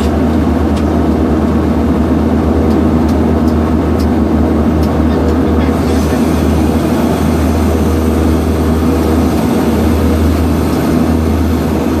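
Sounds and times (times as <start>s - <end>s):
turboprop engine drone in cabin: 0.0s - 12.0s.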